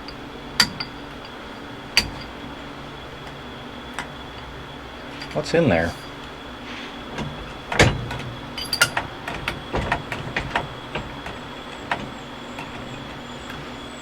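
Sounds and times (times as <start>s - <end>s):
metallic clicks and knocks: 0.0s - 2.6s, 3.2s - 6.4s, 7.1s - 13.2s
background hum: 0.0s - 14.0s.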